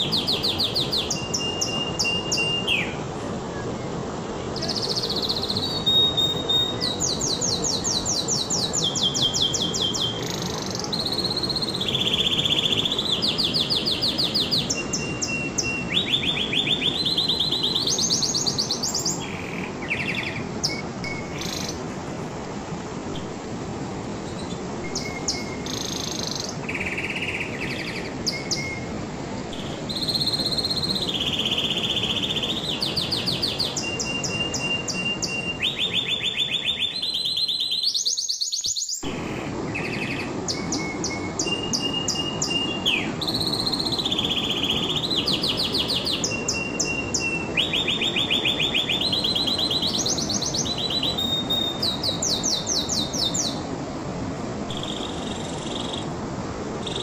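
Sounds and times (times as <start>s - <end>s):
canary singing trills: 0.0s - 3.0s, 4.6s - 21.8s, 24.2s - 28.9s, 29.5s - 53.6s, 54.7s - 56.1s
steady hiss: 0.0s - 57.0s.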